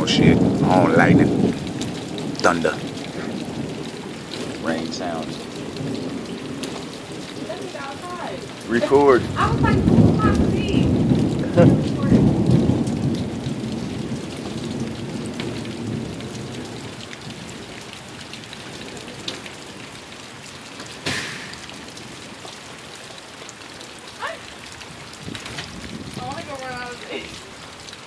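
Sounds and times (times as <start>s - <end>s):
thunder rumbling: 0.0s - 22.5s, 24.2s - 27.6s
steady rain: 0.0s - 28.0s.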